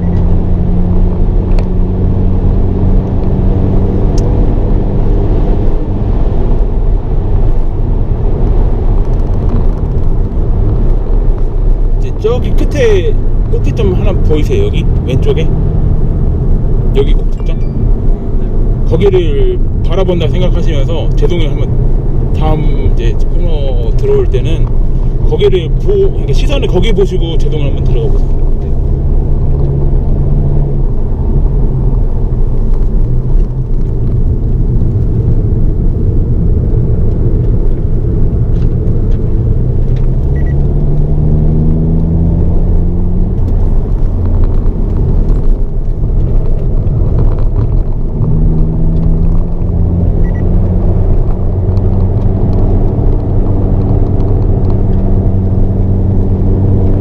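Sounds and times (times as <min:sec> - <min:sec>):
car engine accelerating under load: 0:00.0 - 0:57.0
low road rumble: 0:00.0 - 0:57.0.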